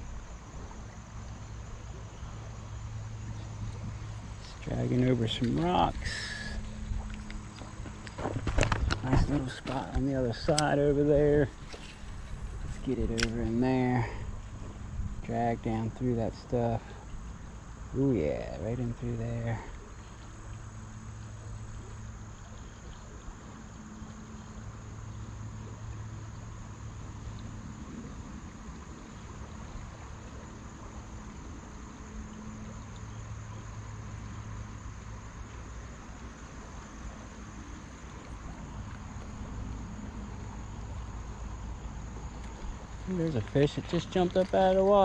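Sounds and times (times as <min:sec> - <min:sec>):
insect drone: 0:00.0 - 0:45.0.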